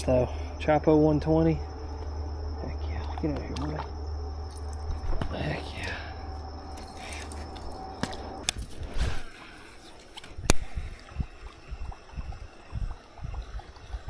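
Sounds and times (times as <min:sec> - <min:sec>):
water drips and sloshing: 0:00.0 - 0:14.0.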